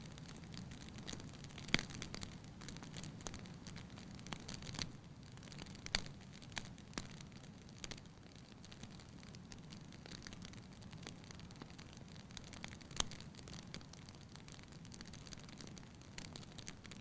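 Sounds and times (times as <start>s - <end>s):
wood campfire crackling: 0.0s - 17.0s.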